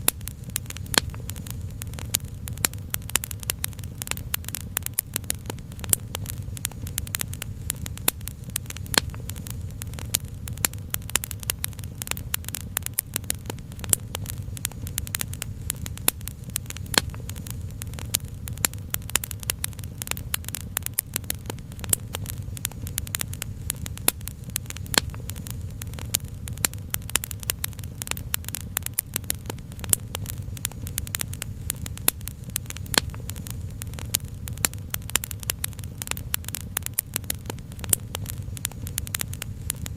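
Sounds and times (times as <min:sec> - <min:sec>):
low fire rumble: 0:00.0 - 0:39.9
wood fire popping and snapping: 0:00.0 - 0:39.9.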